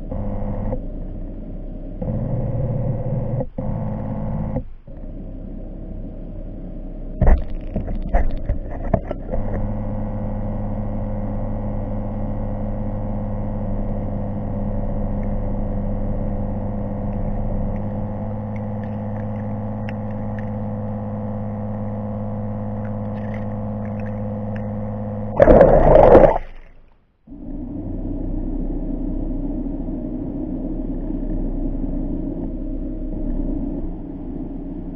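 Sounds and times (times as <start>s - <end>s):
underwater motor humming: 0.0s - 34.9s.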